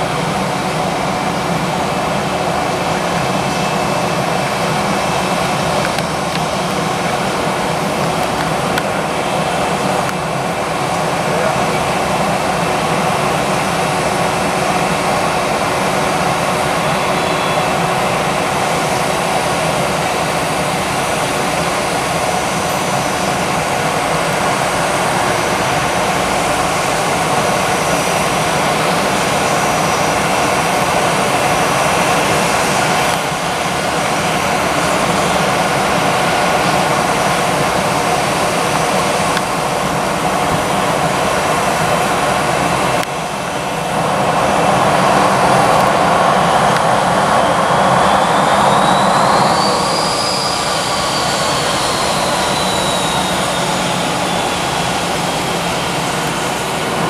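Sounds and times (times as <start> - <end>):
faint high whine: 0.0 - 57.0
jet engines rushing: 0.0 - 57.0.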